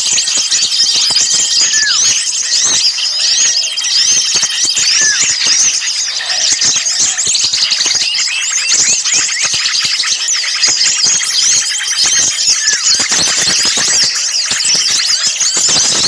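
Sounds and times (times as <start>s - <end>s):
many songbirds chirping: 0.0s - 16.0s.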